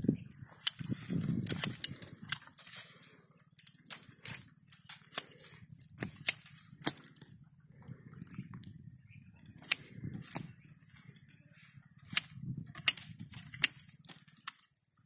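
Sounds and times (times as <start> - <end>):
branches rustling: 0.0 - 8.8, 9.4 - 15.0
pruning shears snipping twigs: 0.1 - 7.4, 9.4 - 11.4, 12.0 - 14.8.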